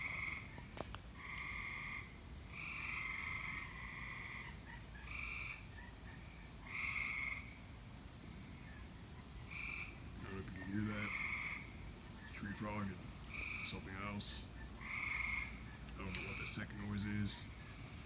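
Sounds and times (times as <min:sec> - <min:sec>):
tree frogs calling: 0:00.0 - 0:18.0.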